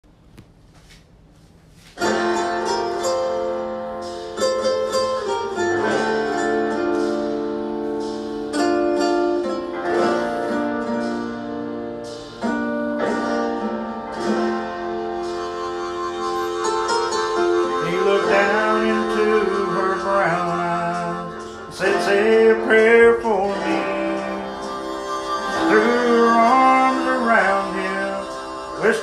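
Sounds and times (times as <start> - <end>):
plucked guitar chords: 2.0 - 29.0.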